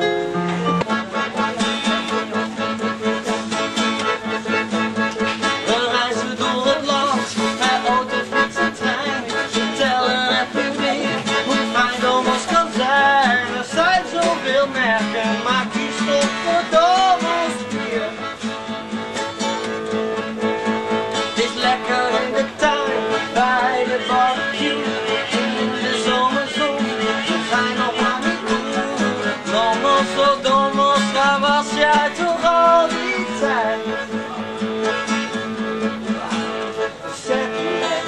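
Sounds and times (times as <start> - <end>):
accordion: 0.0 - 38.0
guitar: 0.0 - 38.0.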